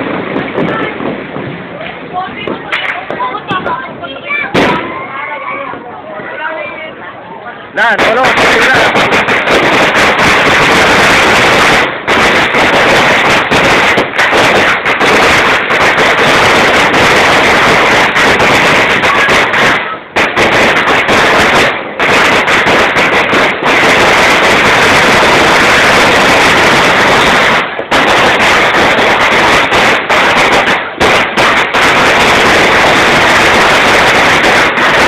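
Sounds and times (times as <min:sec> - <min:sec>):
firecrackers crackling and popping: 0:00.0 - 0:35.0.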